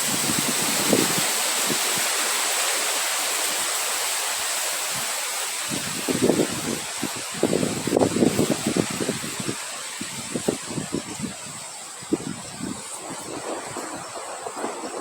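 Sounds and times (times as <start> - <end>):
wind buffeting microphone: 0.0 - 2.2, 5.0 - 15.0
rushing wind: 0.0 - 15.0.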